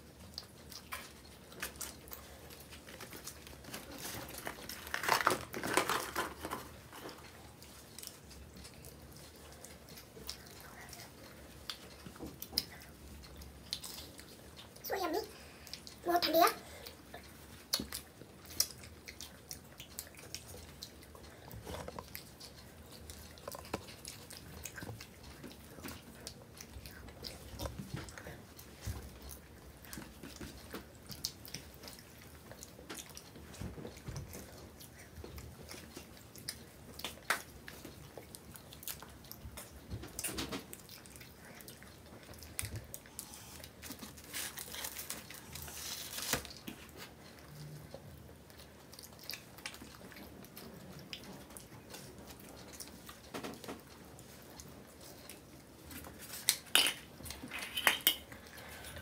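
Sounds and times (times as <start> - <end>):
mouth clicks and crunches: 0.0 - 59.0
people chewing: 0.0 - 59.0.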